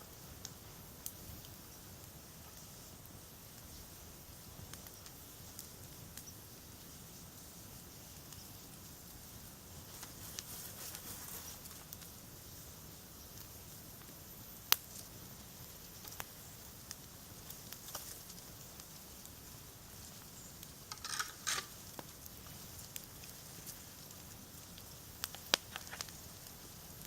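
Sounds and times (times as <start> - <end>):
campfire crackling: 0.0 - 27.0
low background hiss: 0.0 - 27.0.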